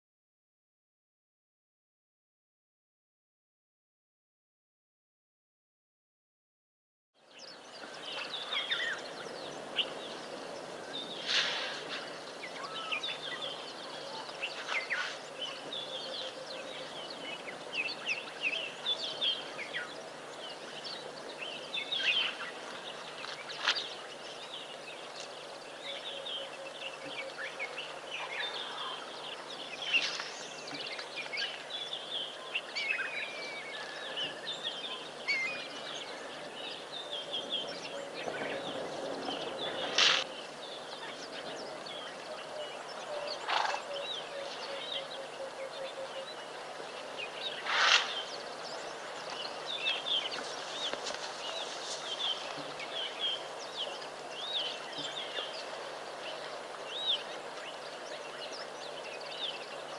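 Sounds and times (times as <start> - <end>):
birds calling and chirping: 7.2 - 59.9
outdoor background hiss: 7.2 - 59.9.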